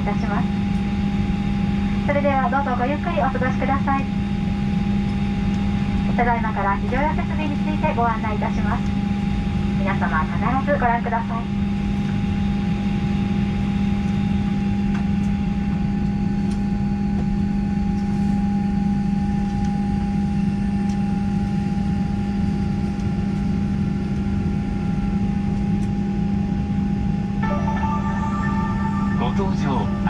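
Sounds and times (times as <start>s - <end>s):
aircraft cabin drone: 0.0s - 30.0s.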